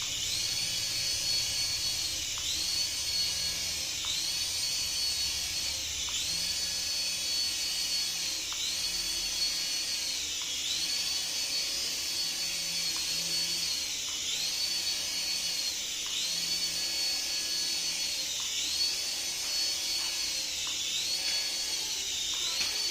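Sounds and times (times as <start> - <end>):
toy high-pitched whine: 0.0 - 22.9.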